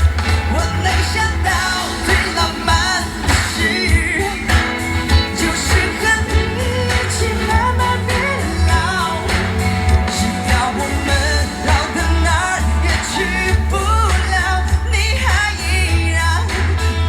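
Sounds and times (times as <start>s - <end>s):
heavy bass line: 0.0s - 17.0s
pop song with singing: 0.0s - 17.0s.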